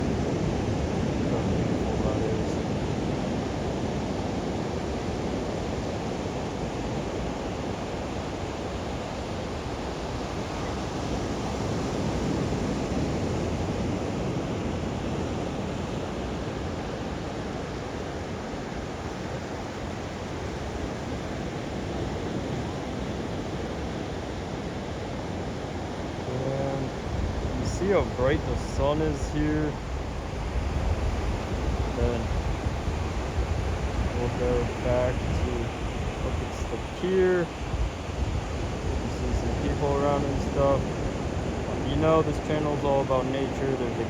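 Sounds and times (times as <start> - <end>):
wind on microphone: 0.0 - 42.7
ocean waves breaking on beach: 0.0 - 44.0.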